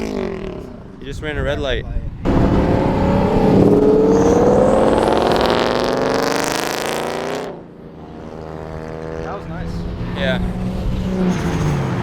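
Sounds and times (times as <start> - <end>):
car engine revving: 2.2 - 12.0.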